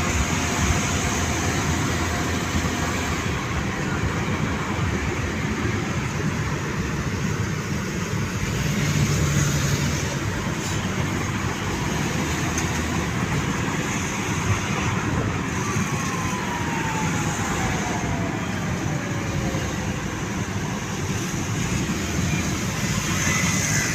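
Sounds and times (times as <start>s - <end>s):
road traffic rumble and tyre hiss: 0.0s - 23.9s.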